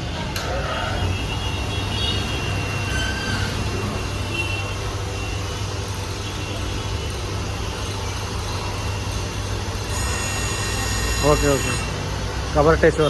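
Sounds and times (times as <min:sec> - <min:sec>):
grinder machine humming: 0:00.0 - 0:13.0.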